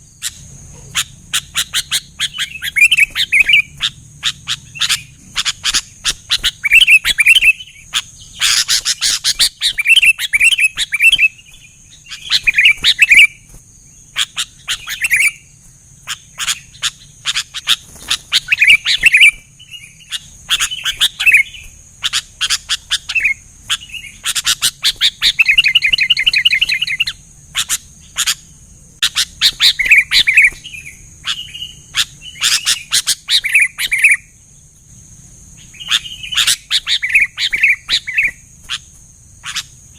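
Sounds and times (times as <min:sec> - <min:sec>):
bird trill: 0:00.0 - 0:39.9
birds chirping: 0:00.0 - 0:39.9.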